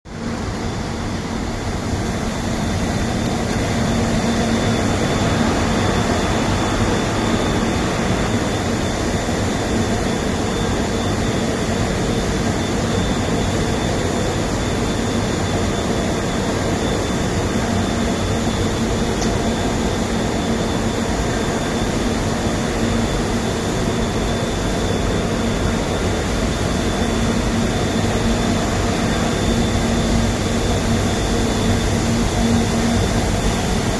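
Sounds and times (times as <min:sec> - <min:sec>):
industrial machinery roaring: 0:00.1 - 0:33.9
thin high whine: 0:00.1 - 0:33.9.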